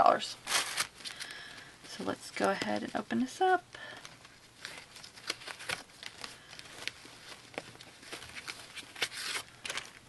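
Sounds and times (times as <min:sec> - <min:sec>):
fingers rustling fabric bundle: 0:00.0 - 0:10.0.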